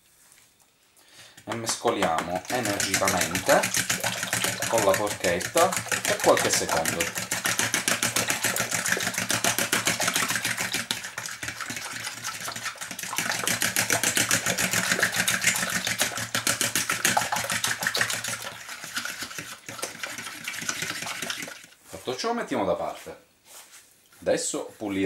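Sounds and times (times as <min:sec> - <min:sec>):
fork beating eggs in plastic bowl: 0:01.3 - 0:21.8.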